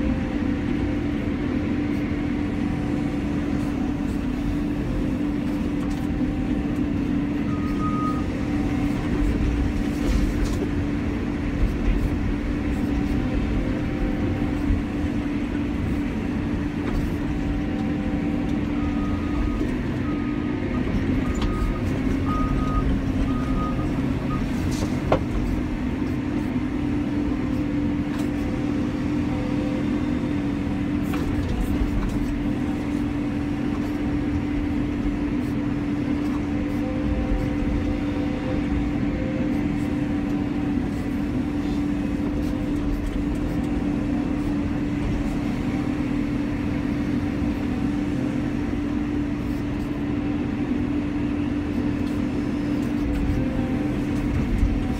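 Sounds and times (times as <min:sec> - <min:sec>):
excavator engine and hydraulics: 0:00.0 - 0:54.9.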